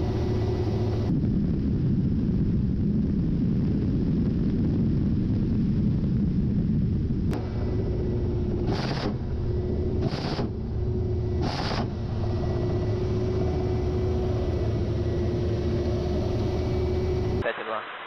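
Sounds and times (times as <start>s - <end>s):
helicopter rumble: 0.0s - 17.8s
thin steady hum: 0.0s - 18.0s.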